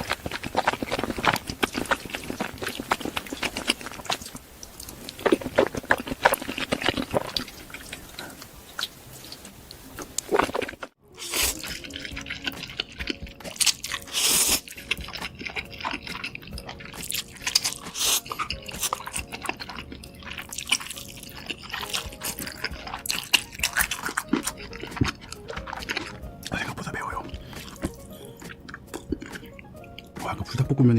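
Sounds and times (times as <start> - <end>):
wet chewing and lip smacks: 0.0 - 30.2.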